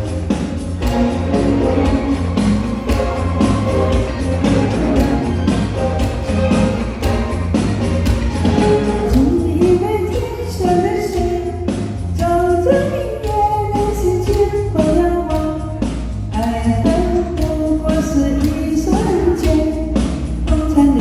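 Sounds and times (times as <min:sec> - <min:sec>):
pop backing track: 0:00.0 - 0:21.0
steady drum beat: 0:00.0 - 0:21.0.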